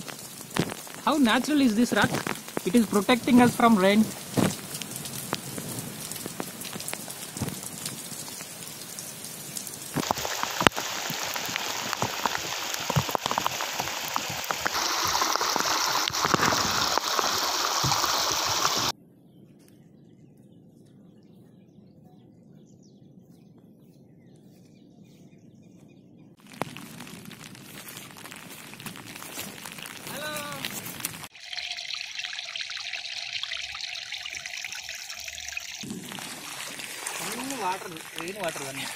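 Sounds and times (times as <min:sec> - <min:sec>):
rain falling: 0:00.0 - 0:18.9, 0:26.4 - 0:38.9
rainwater splashing over rock: 0:00.0 - 0:18.9, 0:26.4 - 0:38.9.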